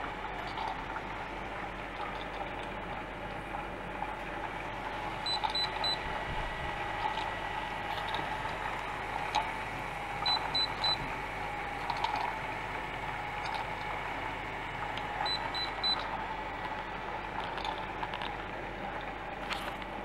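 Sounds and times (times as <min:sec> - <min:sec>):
immersion circulator humming: 0:00.0 - 0:20.0.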